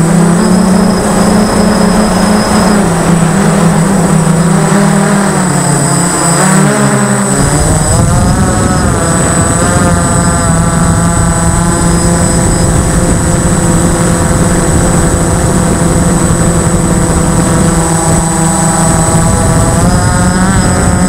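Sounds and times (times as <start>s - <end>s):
model aircraft propeller droning: 0.0s - 21.0s.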